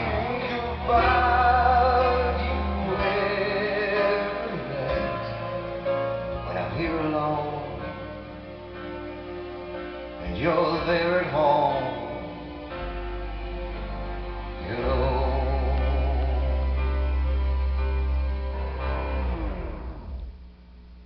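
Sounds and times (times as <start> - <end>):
pop song from vinyl record: 0.0 - 21.0.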